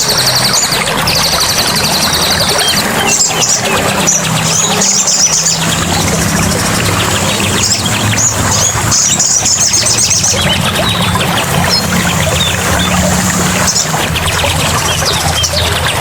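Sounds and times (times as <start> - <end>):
running water: 0.0 - 16.0
songbirds chirping: 0.0 - 16.0.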